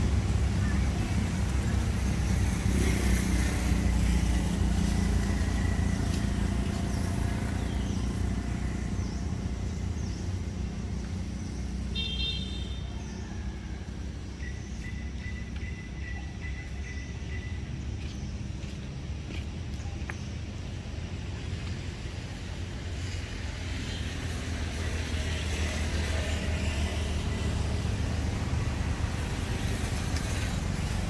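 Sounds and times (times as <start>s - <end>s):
passing motor vehicle rumble: 0.0s - 31.0s.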